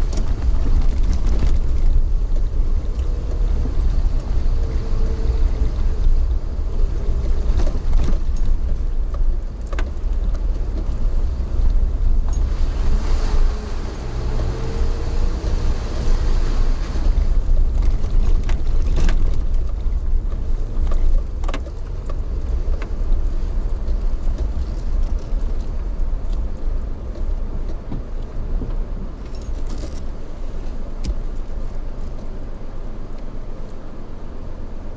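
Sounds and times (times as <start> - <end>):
moving vehicle rumble: 0.0 - 34.9.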